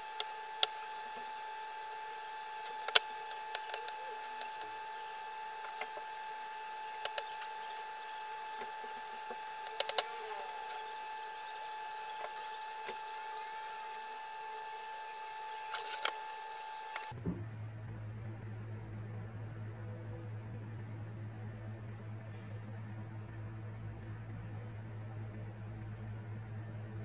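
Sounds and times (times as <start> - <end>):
high electrical whine: 0.0 - 27.0
low hum: 0.0 - 27.0.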